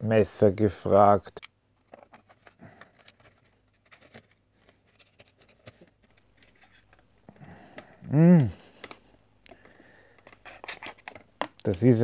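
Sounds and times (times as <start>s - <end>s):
faint clicks and scratches: 1.3s - 8.0s, 8.7s - 12.0s.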